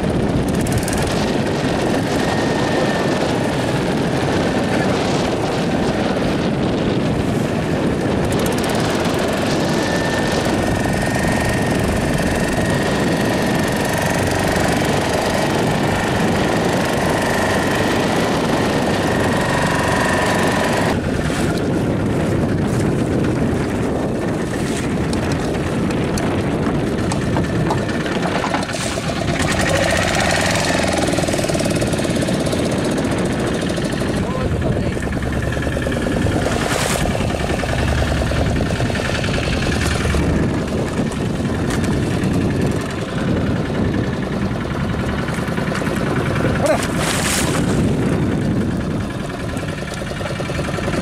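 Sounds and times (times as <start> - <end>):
boat engine running: 0.0 - 51.0
sea noise: 0.0 - 51.0
wind: 0.0 - 51.0.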